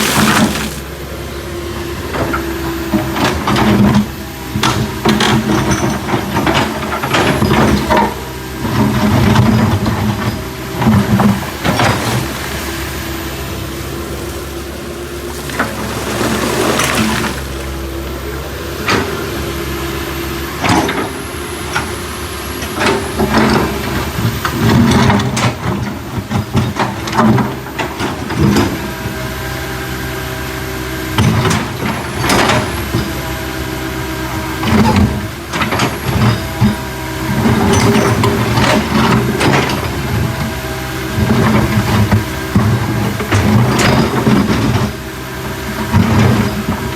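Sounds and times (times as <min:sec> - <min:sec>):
backhoe diesel engine running: 0:00.0 - 0:46.9.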